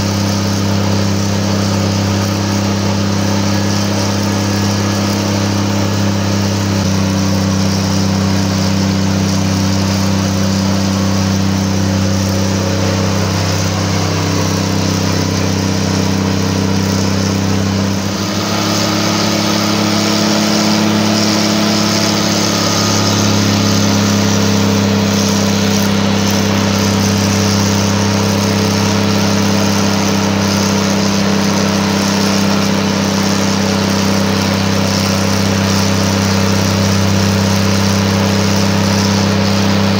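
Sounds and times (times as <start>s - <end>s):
locomotive diesel engine running: 0.0s - 39.9s.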